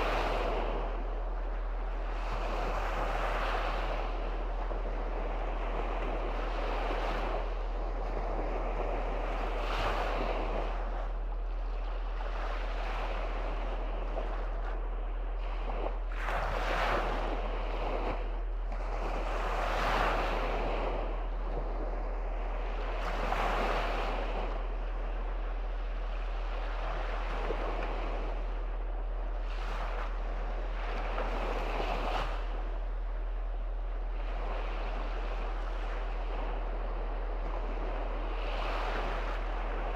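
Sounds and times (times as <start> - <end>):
small waves washing on sandy shore: 0.0 - 39.9.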